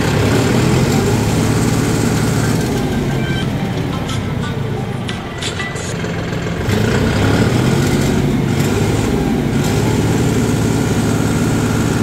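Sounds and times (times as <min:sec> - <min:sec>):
diesel tractor engine revving: 0:00.0 - 0:12.0.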